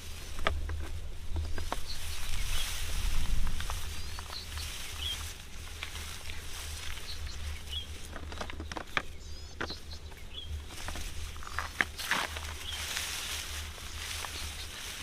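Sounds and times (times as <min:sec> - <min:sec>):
crackles and clicks: 0:00.0 - 0:15.0
low wind rumble: 0:00.0 - 0:15.0.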